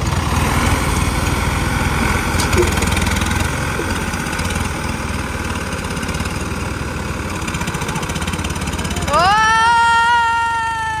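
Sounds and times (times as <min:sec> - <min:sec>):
diesel tractor engines idling: 0:00.0 - 0:11.0.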